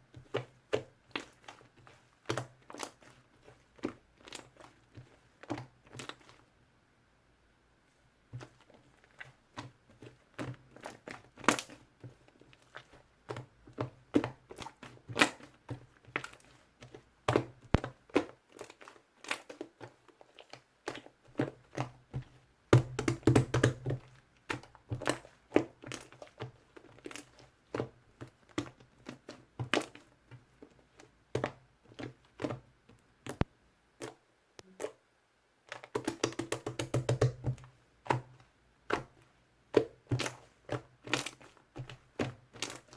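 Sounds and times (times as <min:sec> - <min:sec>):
slime squishing with wet pops: 0:00.0 - 0:06.6, 0:08.2 - 0:42.9.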